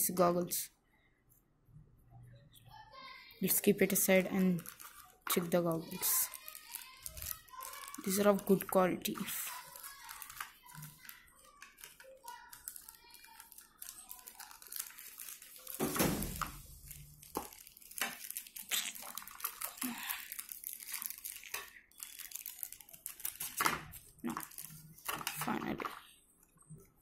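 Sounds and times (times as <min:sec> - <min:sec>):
plastic bag crinkling: 0:03.4 - 0:26.2.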